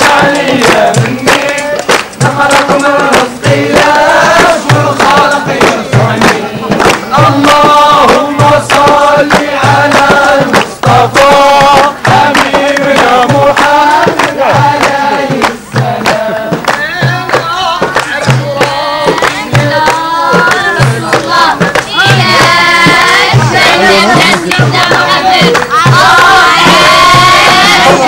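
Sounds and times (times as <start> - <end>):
group singing in chorus: 0.0 - 28.0
percussion beat: 0.0 - 28.0.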